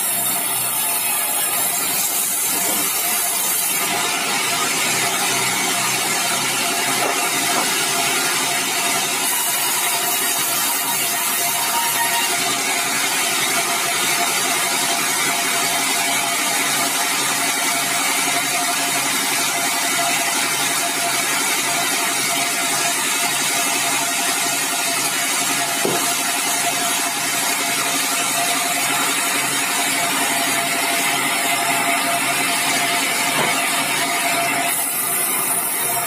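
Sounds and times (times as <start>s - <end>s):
sawmill sawing log: 0.0s - 36.0s.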